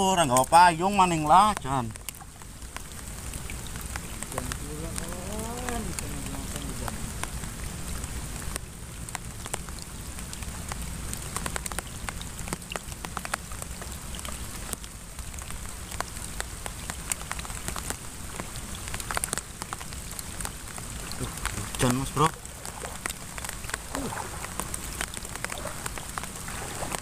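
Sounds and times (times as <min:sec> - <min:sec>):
raindrops ticking: 0:00.0 - 0:27.0.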